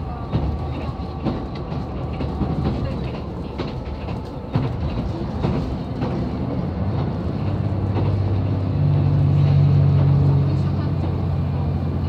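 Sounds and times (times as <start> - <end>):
diesel engine drone: 0.0 - 12.0
train running rumble: 0.0 - 12.0
train wheels clacking: 0.0 - 12.0.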